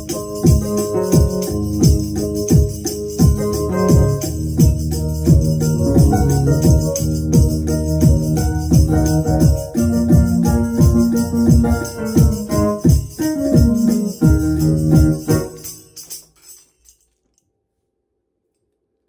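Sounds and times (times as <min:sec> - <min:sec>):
electronic keyboard chords: 0:00.0 - 0:16.2
jingling beat: 0:00.0 - 0:17.1.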